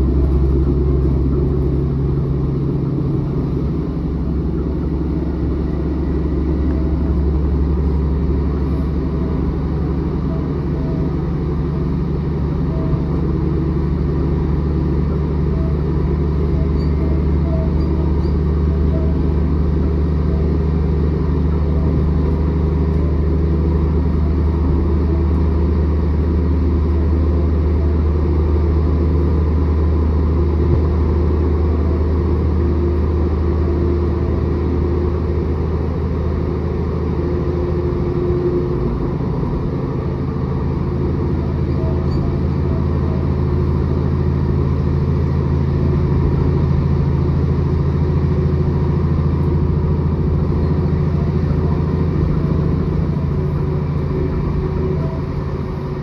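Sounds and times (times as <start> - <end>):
diesel engine droning: 0.0 - 56.0
train wheels rumbling on track: 0.0 - 56.0.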